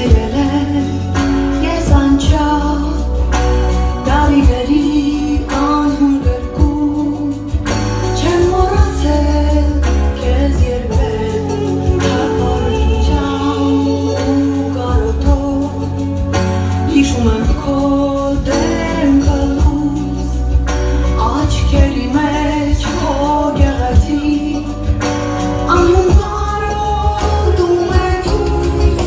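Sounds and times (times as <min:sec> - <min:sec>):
band with drums and keyboards: 0:00.0 - 0:29.0
woman singing into microphone: 0:00.0 - 0:29.0.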